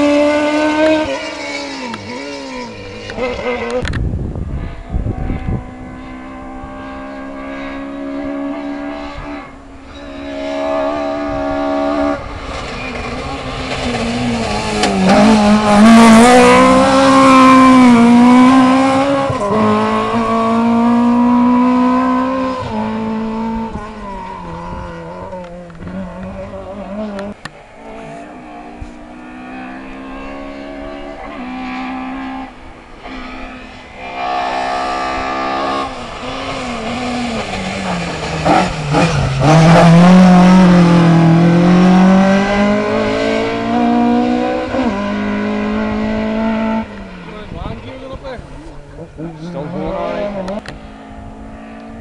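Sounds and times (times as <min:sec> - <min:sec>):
car engine revving hard: 0:00.0 - 0:52.0
second car engine approaching: 0:00.0 - 0:52.0.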